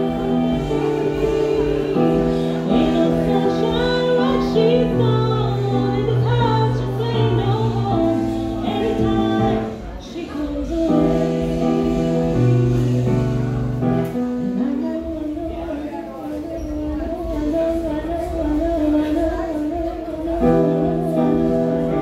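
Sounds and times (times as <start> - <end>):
piano chords: 0.0 - 22.0
woman singing: 0.0 - 22.0.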